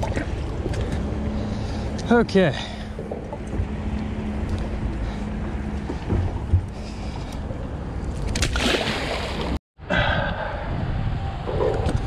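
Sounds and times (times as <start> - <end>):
wind and water against hull: 0.0 - 12.0.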